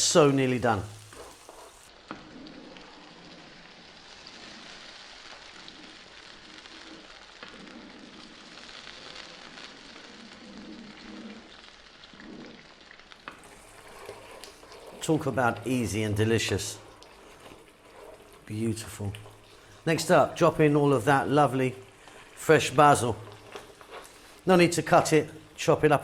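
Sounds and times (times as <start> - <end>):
sauce sizzling in a pan: 0.0 - 26.0.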